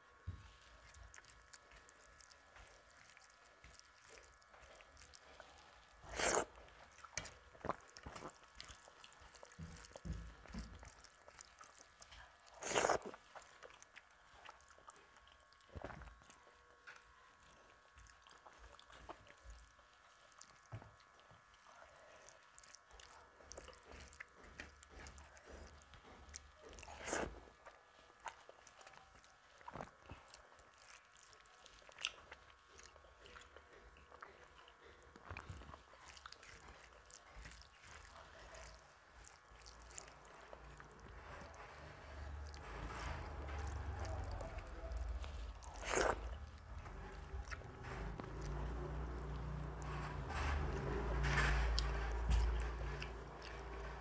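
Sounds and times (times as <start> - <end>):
fingers mixing rice: 0.0 - 16.8, 17.4 - 34.2, 35.1 - 54.0
wet chewing and mouth clicks: 0.5 - 54.0.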